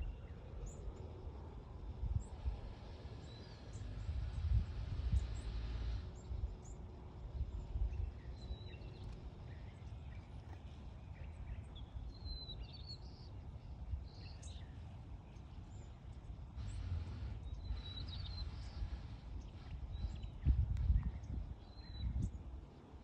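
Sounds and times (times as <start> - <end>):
steady low rumble: 0.0 - 23.0
birds chirping: 2.2 - 22.8.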